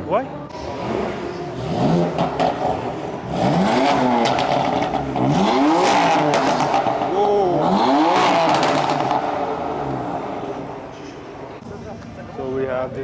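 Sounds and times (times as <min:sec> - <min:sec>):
car engine revving: 0:00.5 - 0:13.0.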